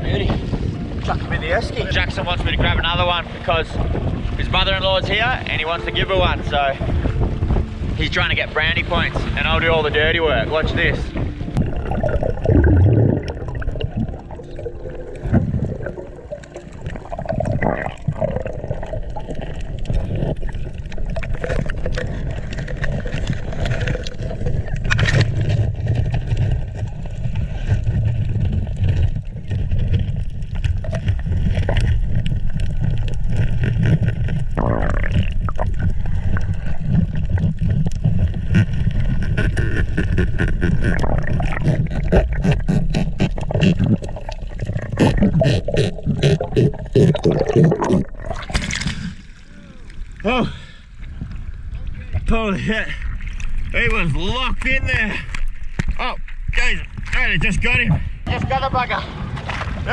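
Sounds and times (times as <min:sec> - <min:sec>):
underwater clicks and crackles: 0:00.0 - 0:58.8
underwater rumble: 0:00.0 - 0:59.9.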